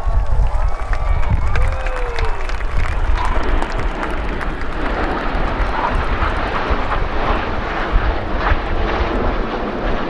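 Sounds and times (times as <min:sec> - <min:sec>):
jet roar overhead: 0:00.0 - 0:10.0.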